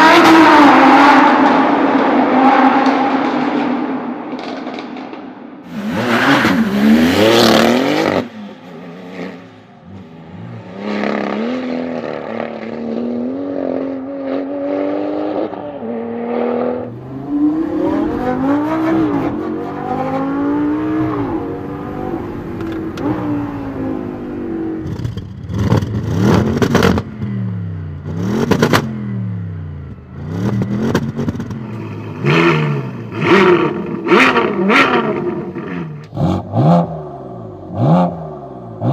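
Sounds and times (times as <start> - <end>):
car engines revving: 0.0 - 38.9
cars passing by: 0.0 - 38.9.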